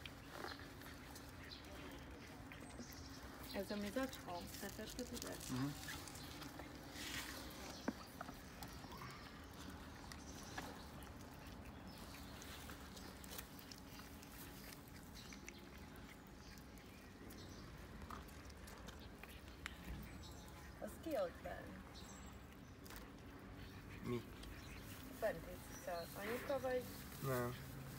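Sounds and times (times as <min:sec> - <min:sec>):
cats chewing: 0:00.0 - 0:27.9.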